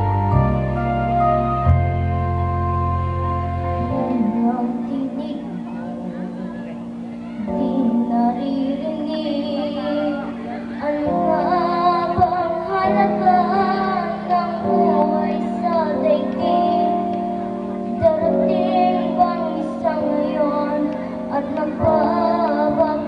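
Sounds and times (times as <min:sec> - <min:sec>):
backing track with sustained chords: 0:00.0 - 0:23.0
girl singing: 0:03.8 - 0:23.0.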